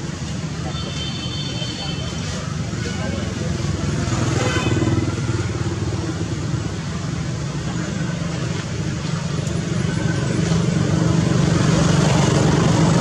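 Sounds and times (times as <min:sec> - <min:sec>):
road traffic engine drone: 0:00.0 - 0:13.0.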